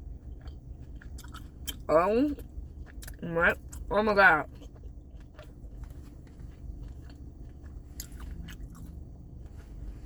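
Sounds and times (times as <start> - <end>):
crunchy chewing: 0.0 - 10.0.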